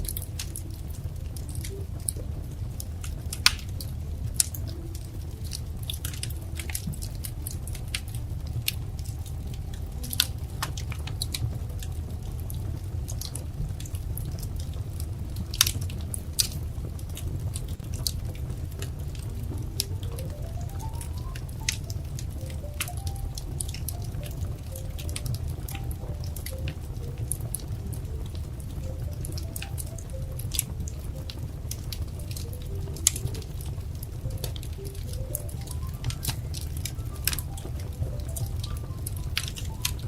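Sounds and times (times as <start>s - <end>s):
fire pops and snaps: 0.0s - 40.0s
low steady rumble: 0.0s - 40.0s
wood fire crackling: 0.0s - 40.0s.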